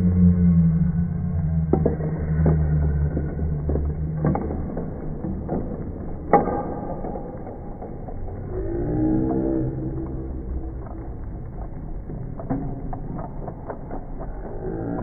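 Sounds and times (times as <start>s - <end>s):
low rumble: 0.0s - 15.0s
knocks and rattles: 1.7s - 15.0s.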